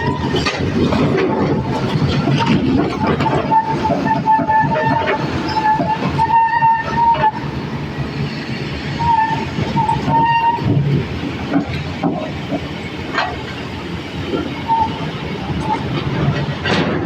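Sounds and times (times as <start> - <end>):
excavator engine rumble: 0.0 - 17.0.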